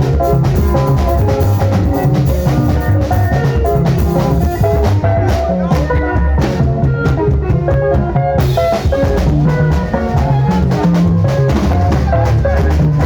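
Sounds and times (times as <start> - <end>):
busy bass line: 0.0 - 13.0
drum kit beat: 0.0 - 13.0.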